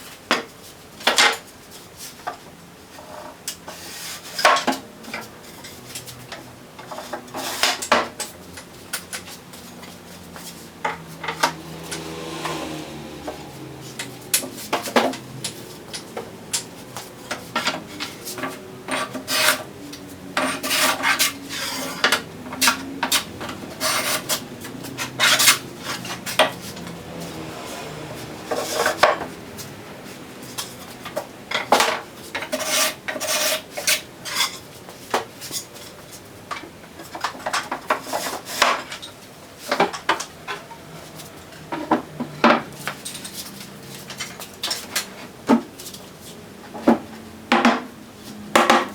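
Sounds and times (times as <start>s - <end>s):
wood scraping on wood: 2.0s - 47.0s.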